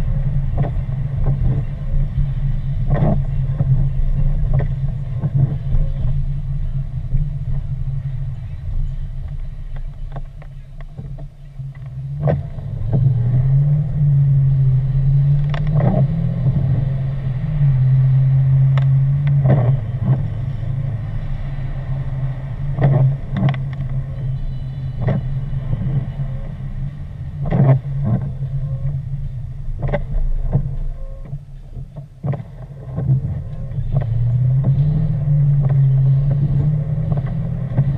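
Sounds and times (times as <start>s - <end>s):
car engine: 0.0s - 37.9s
road noise: 0.0s - 37.9s.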